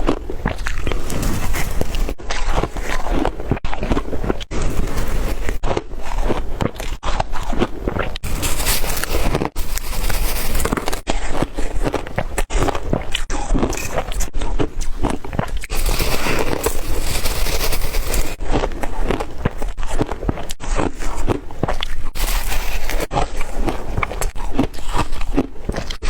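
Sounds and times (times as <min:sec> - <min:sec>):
chewing crunchy food: 0:00.0 - 0:26.0.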